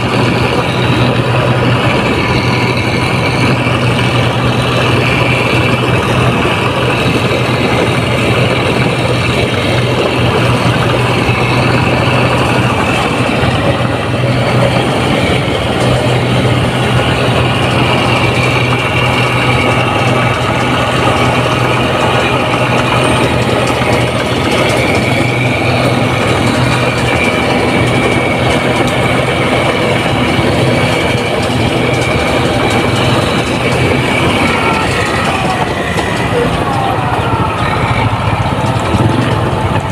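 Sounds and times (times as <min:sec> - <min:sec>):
harvester diesel engine running: 0:00.0 - 0:39.9
high whine: 0:00.0 - 0:39.9.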